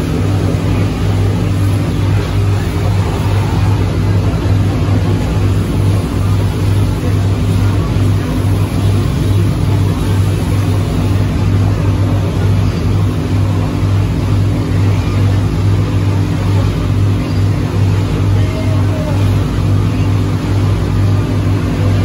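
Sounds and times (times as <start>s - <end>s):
boat engines throbbing: 0.0s - 22.0s
steady rushing noise: 0.0s - 22.0s.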